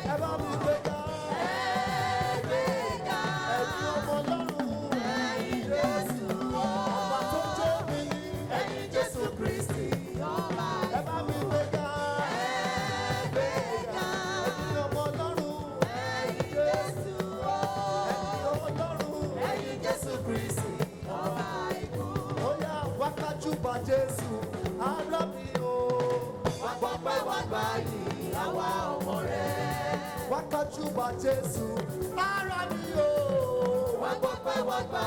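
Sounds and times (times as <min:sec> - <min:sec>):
gospel singers with band: 0:00.0 - 0:35.0.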